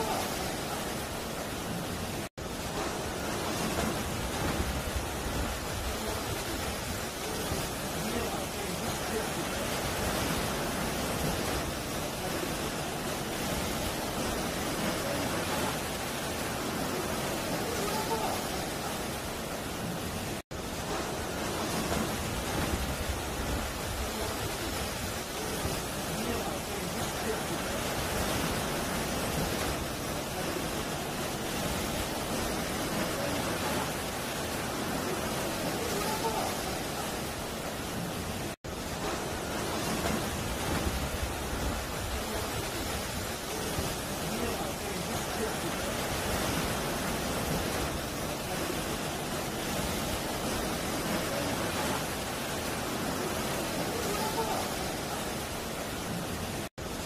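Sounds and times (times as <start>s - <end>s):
sea waves washing over rocks: 0.0s - 57.0s.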